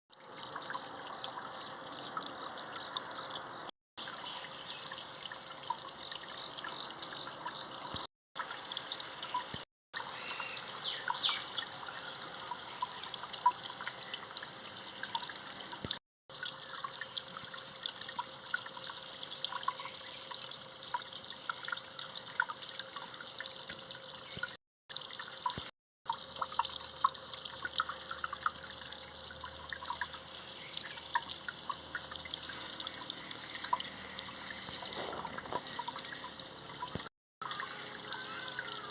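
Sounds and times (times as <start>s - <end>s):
water trickling in a stream: 0.1s - 38.9s.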